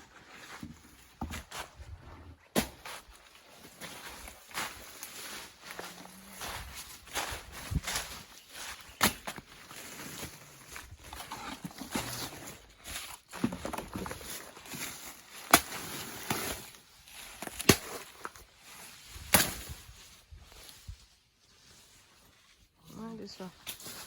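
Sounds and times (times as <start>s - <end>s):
footsteps through dry vegetation: 2.7s - 24.0s.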